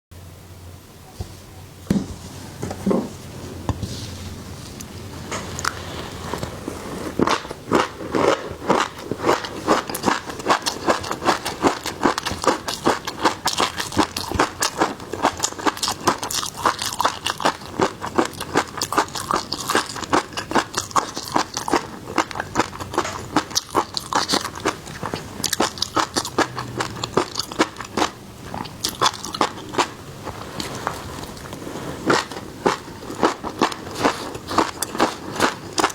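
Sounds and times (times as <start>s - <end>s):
crunchy chewing of seafood: 3.5s - 35.9s.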